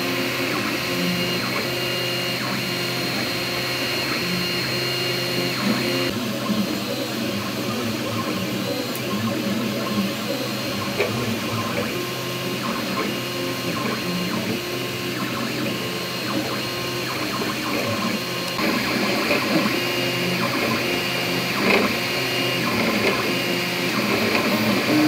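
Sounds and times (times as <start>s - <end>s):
fans humming: 0.0s - 25.0s
stepper motor tones: 0.0s - 25.0s.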